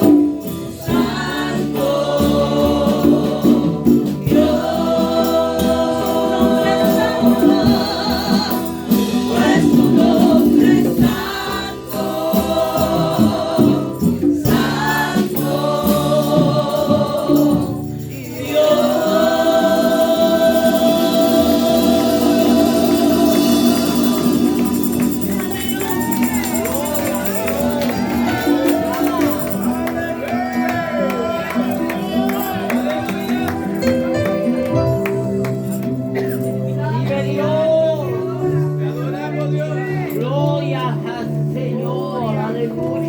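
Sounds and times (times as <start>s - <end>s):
group of voices singing: 0.0s - 38.3s
band accompaniment: 0.0s - 39.8s.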